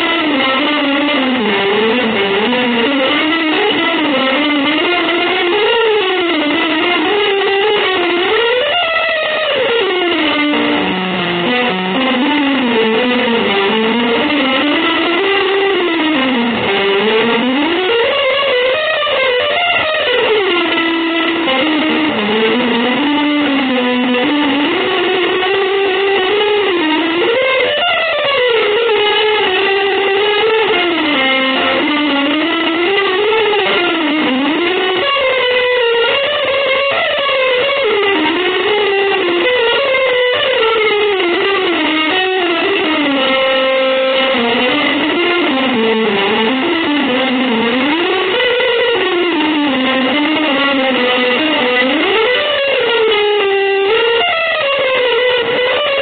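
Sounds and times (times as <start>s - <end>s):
electric guitar melody through effects: 0.0s - 56.0s.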